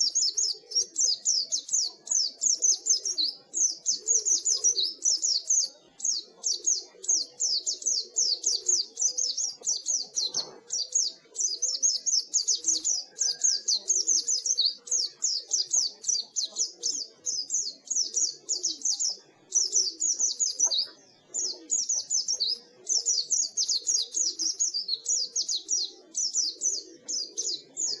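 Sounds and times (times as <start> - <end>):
bird twittering song: 0.0 - 28.0.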